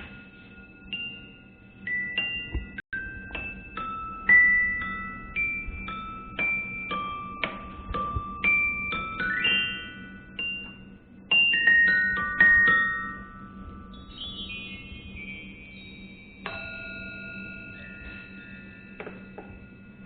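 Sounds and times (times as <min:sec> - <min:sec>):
faint low hum: 0:00.0 - 0:20.0
mallet percussion notes: 0:00.0 - 0:20.0.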